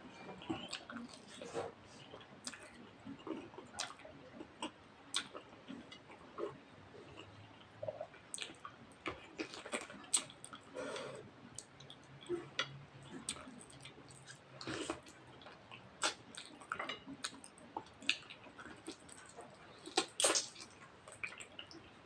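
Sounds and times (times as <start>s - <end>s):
person chewing food: 0.4s - 22.0s.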